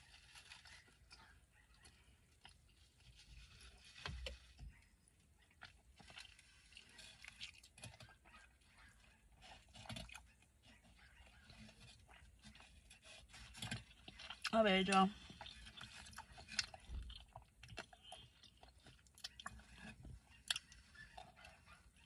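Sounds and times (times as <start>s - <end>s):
close-up chewing: 0.0s - 22.0s.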